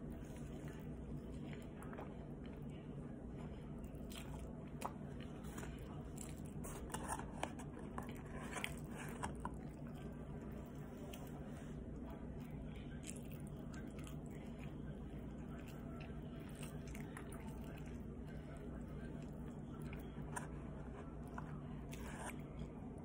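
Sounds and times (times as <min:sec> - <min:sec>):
person chewing crunchy food: 0:03.4 - 0:22.8.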